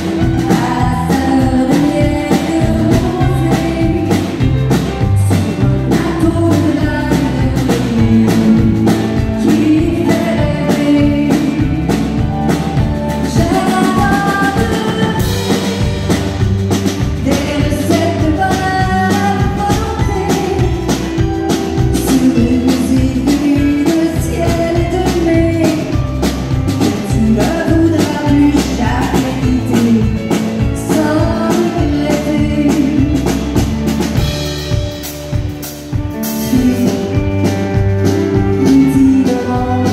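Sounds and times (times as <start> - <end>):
woman singing into a microphone: 0.0 - 33.7, 36.2 - 39.9
bass guitar: 0.0 - 39.9
drum kit beat: 0.0 - 39.9
guitar: 0.0 - 39.9.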